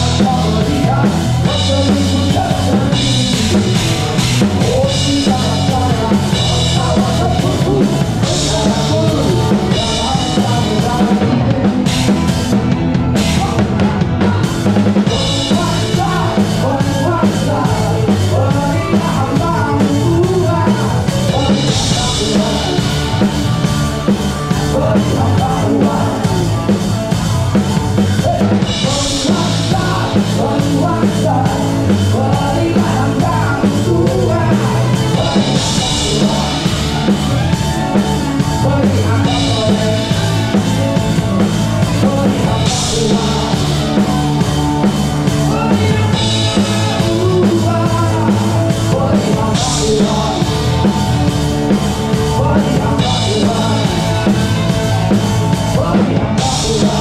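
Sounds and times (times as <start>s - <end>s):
drum kit: 0.0s - 57.0s
live band playing: 0.0s - 57.0s.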